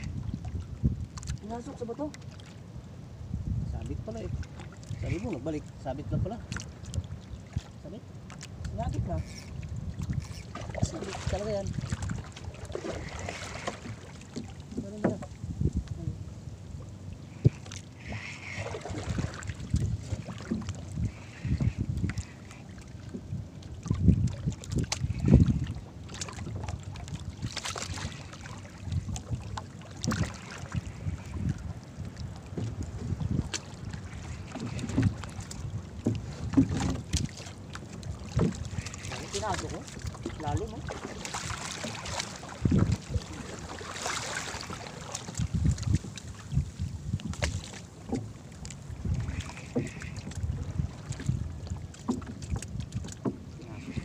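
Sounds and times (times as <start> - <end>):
wind gusting on microphone: 0.0 - 2.1, 3.2 - 8.0, 8.6 - 48.3, 48.9 - 54.0
water lapping against hull: 0.0 - 54.0.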